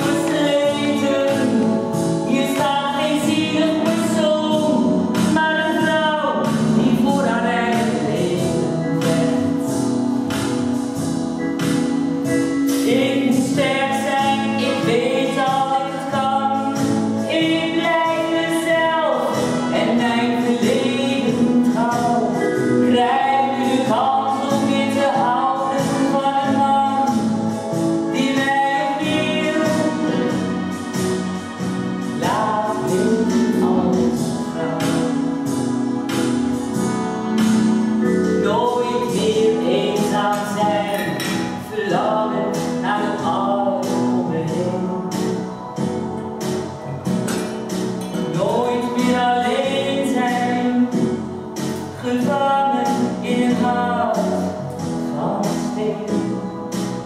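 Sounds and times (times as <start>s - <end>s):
woman singing: 0.0s - 10.4s, 12.7s - 31.1s, 32.1s - 36.2s, 37.3s - 45.6s, 48.3s - 56.6s
instrumental accompaniment with beat: 0.0s - 57.0s.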